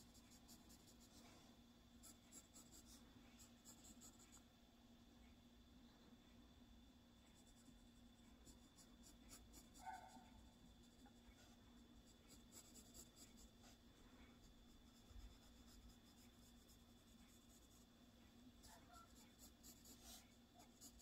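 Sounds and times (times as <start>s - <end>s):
pencil scratching on paper: 0.0s - 4.4s, 7.3s - 17.9s, 18.6s - 21.0s
low steady hum: 0.0s - 21.0s.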